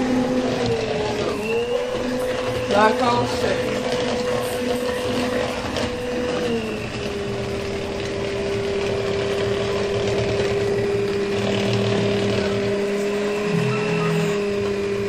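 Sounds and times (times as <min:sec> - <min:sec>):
electric hand mixer whirring: 0:00.0 - 0:15.0.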